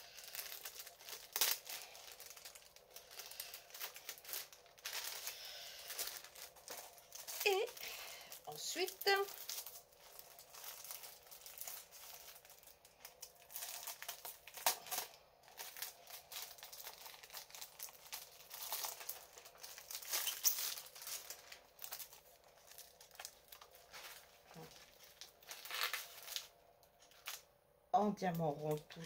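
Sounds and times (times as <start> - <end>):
plastic packaging crinkling: 0.0 - 27.5.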